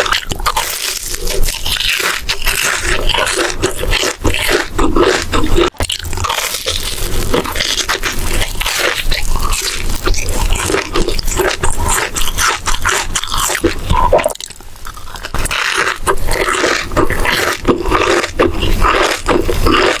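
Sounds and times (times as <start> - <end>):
crunchy chewing: 0.0 - 20.0
wet mouth sounds: 0.0 - 20.0.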